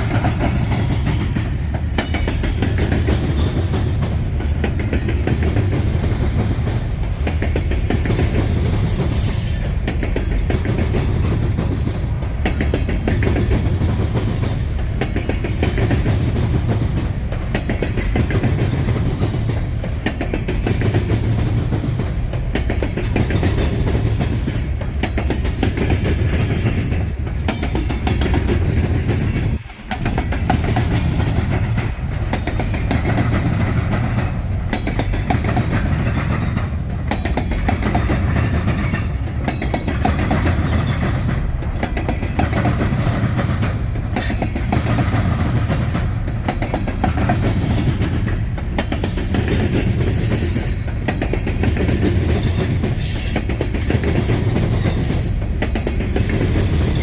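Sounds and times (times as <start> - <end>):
freight train cars rumbling: 0.0 - 57.0
wheels clacking over rail joints: 0.0 - 57.0.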